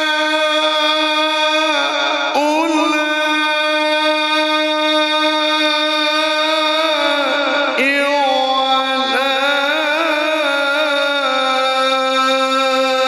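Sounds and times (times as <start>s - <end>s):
man reciting in long melodic note: 0.0s - 13.0s.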